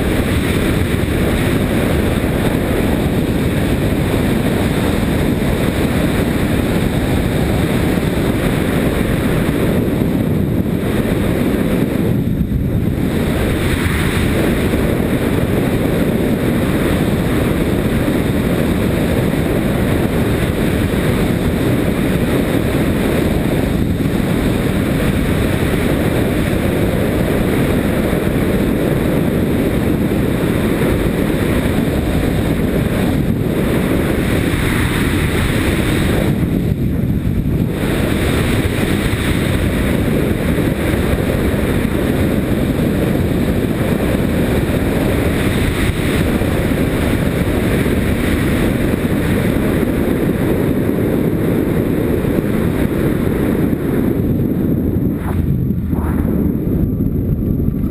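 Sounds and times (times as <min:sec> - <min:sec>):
loud wind noise: 0:00.0 - 0:57.9
motorcycle engine running: 0:00.0 - 0:57.9.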